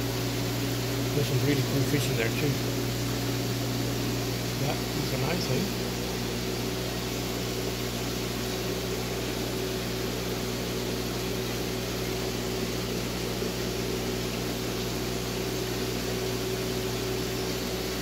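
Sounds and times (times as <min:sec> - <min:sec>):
aeration and moving water hiss: 0:00.0 - 0:18.0
pump motors humming: 0:00.0 - 0:18.0.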